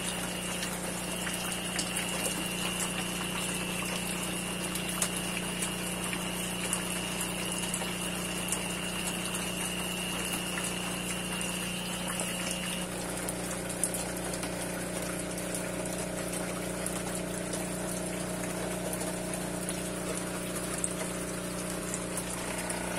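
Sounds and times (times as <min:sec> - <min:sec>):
aquarium pump humming: 0:00.0 - 0:22.9
water bubbling and trickling: 0:00.0 - 0:22.9.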